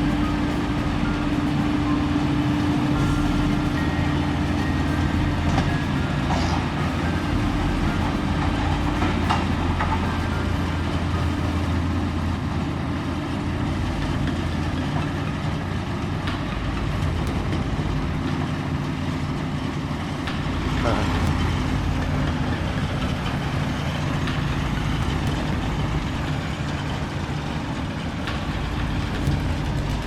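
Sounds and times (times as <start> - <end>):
large diesel engine running: 0.0 - 30.0.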